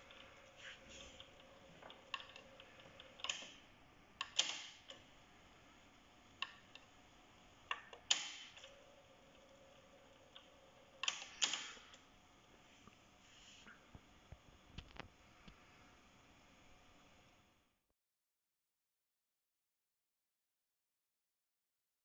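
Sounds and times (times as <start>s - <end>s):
faint motor hum: 0.0s - 17.9s.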